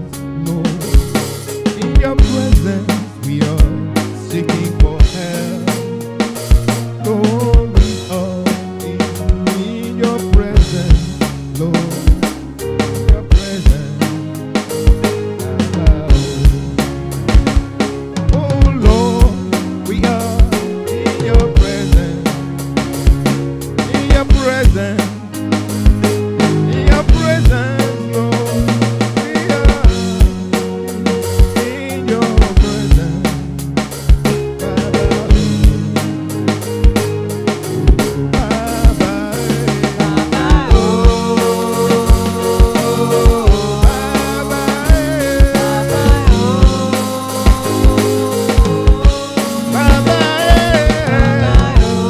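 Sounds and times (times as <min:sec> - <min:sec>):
band playing instrumental: 0:00.0 - 0:52.0
drum kit hits: 0:00.0 - 0:52.0.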